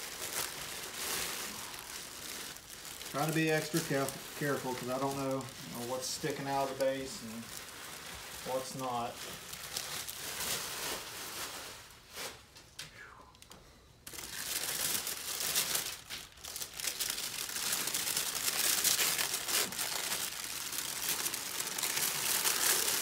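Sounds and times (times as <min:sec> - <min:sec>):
plastic wrapping crinkling: 0:00.0 - 0:12.6, 0:14.0 - 0:23.0.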